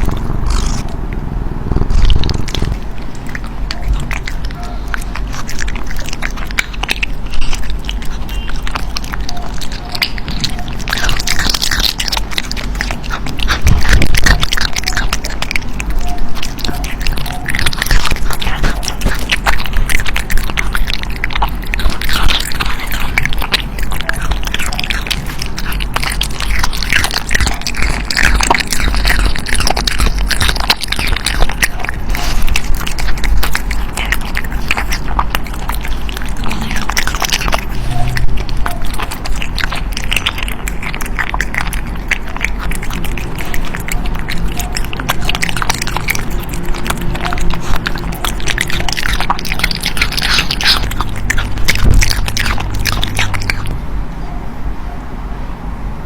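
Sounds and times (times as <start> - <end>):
cat crunching food: 0.0 - 53.9.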